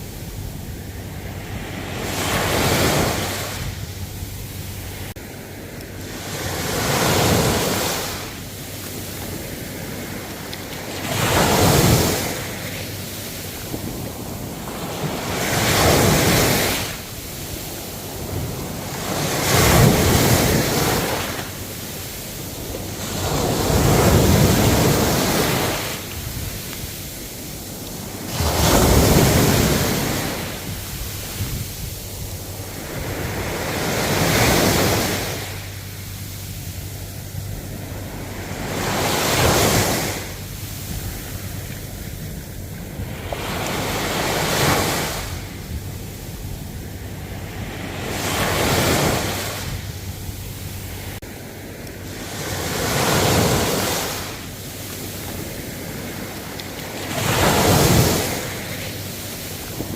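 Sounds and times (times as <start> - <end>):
ocean waves breaking: 0.0 - 59.9
steady wash of water: 0.0 - 59.9.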